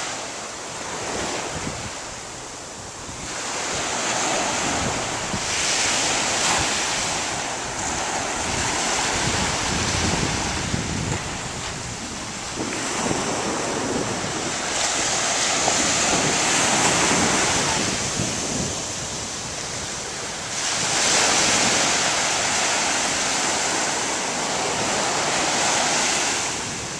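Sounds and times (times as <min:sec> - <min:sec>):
waves breaking: 0:00.0 - 0:26.9
wind rumbling on microphone: 0:00.0 - 0:26.9.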